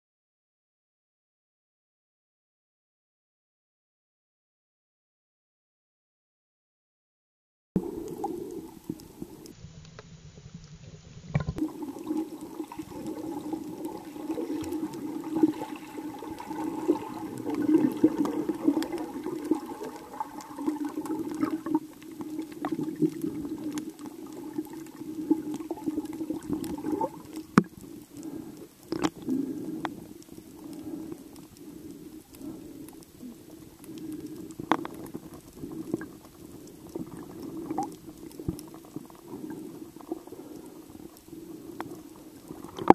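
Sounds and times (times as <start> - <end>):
muffled underwater rush: 7.8 - 42.9.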